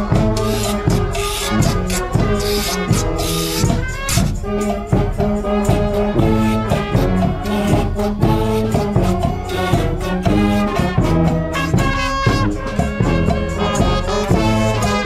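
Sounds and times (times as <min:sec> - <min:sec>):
drums keeping a steady beat: 0:00.0 - 0:15.0
trumpets and trombones playing: 0:00.0 - 0:15.0.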